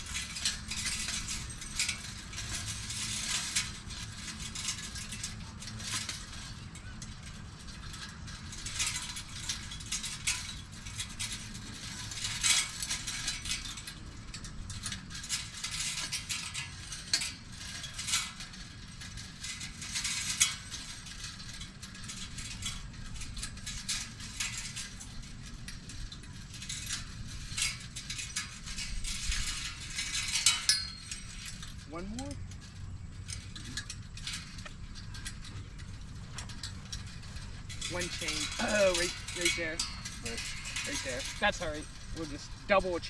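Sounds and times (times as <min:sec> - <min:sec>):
metal chains clinking: 0:07.8 - 0:43.0.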